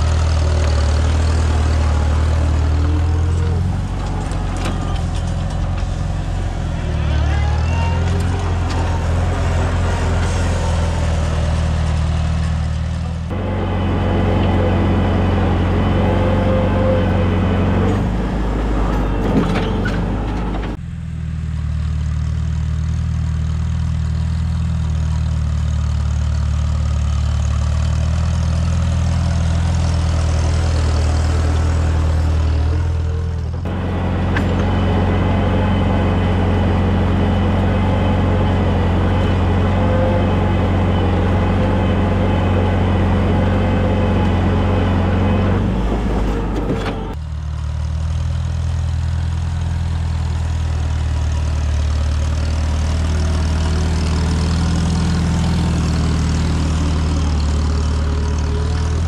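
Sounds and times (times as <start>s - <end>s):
tractor engine under load: 0.0s - 21.0s, 22.1s - 59.0s.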